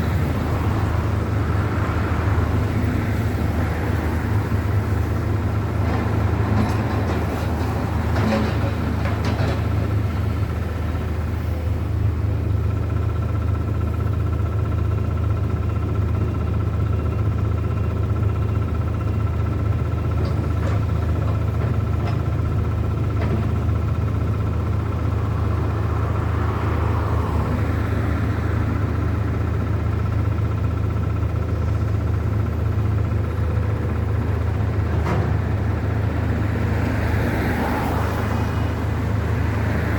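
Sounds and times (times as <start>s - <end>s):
large engine rumbling: 0.0s - 39.9s.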